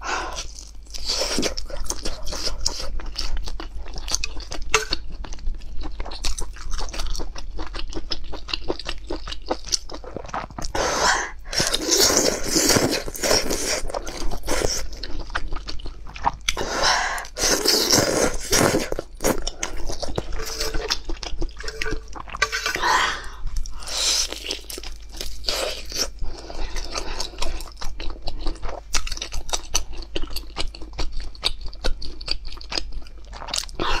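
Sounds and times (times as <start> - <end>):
person chewing crisp food: 0.1 - 34.0.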